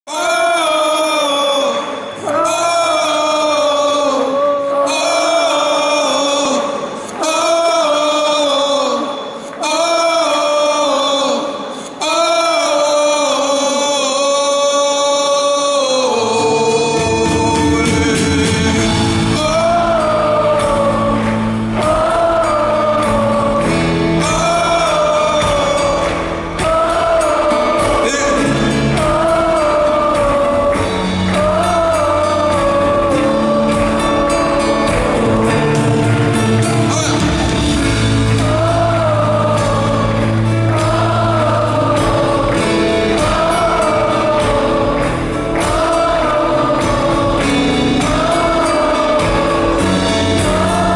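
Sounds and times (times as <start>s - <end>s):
arena crowd singing: 0.0s - 50.9s.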